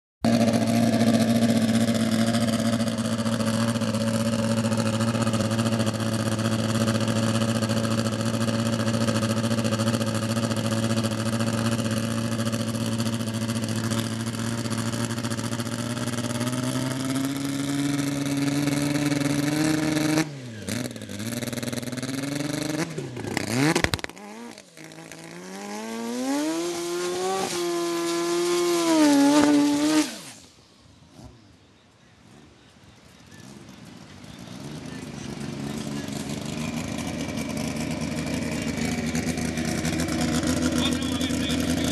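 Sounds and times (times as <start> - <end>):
atv engine revving: 0.2 - 41.9.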